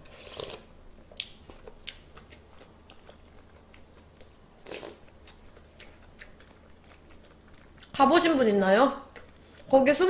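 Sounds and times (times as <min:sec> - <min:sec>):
person chewing food: 0:00.0 - 0:08.0, 0:09.1 - 0:09.7.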